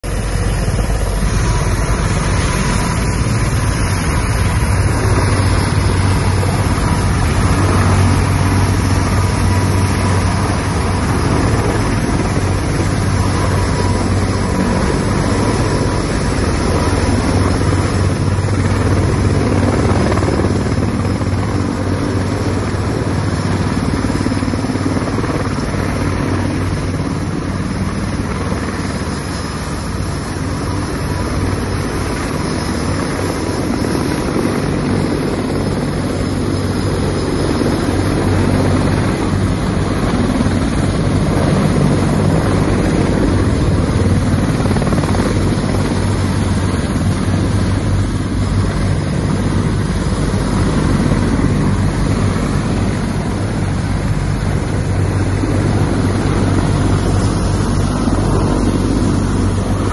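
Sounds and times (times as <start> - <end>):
deep rotor hum: 0.0 - 59.9
helicopter engine drone: 0.0 - 59.9.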